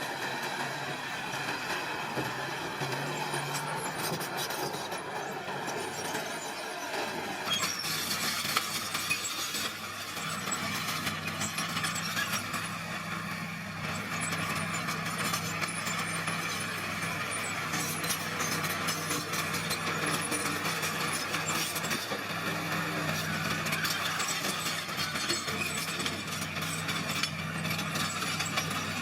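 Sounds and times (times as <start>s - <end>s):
bulldozer diesel engine running: 0.0s - 29.0s
steel tracks clinking and rattling: 0.0s - 29.0s.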